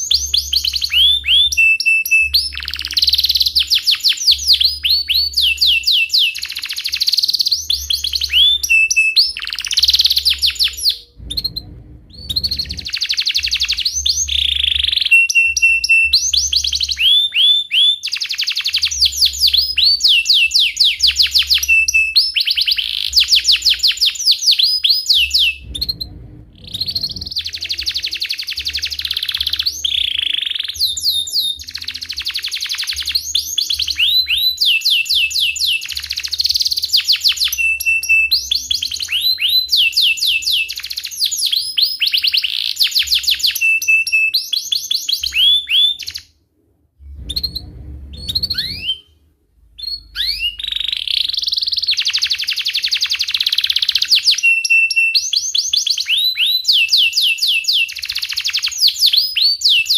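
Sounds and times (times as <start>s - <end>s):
canary singing trills: 0.0s - 46.3s, 47.1s - 49.2s, 49.8s - 59.9s.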